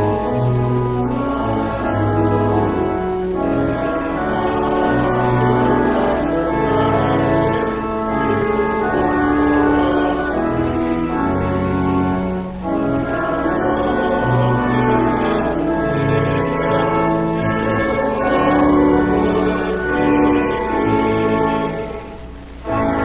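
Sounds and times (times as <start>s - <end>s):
church organ playing chords: 0.0s - 23.0s.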